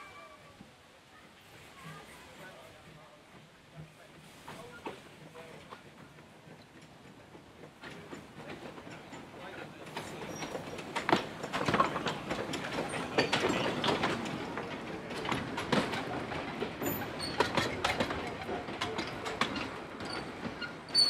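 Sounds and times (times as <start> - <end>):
train rumble: 0.0 - 21.0
wheels clicking over rail joints: 1.6 - 21.0.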